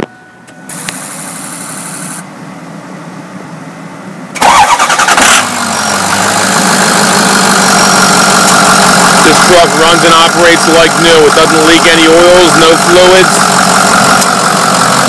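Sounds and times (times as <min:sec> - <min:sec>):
diesel engine starting and idling: 0:00.1 - 0:15.0.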